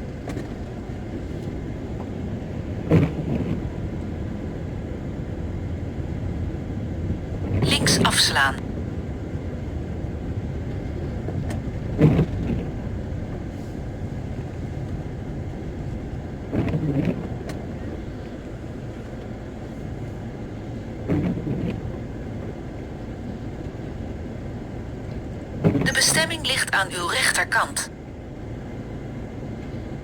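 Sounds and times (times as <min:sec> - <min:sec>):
camper van engine and road rumble: 0:00.0 - 0:07.6, 0:08.6 - 0:25.8, 0:27.9 - 0:30.0.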